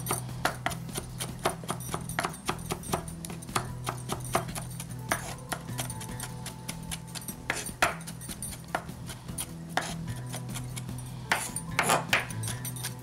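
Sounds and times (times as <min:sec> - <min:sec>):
knife chopping on wooden board: 0:00.0 - 0:12.5
background music: 0:00.0 - 0:13.0.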